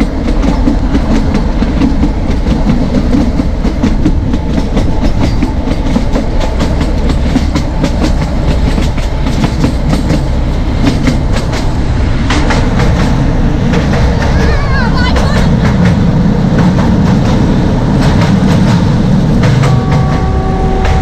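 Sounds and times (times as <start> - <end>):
train low rumble: 0.0 - 21.0
wheels clattering over rail joints: 0.0 - 21.0.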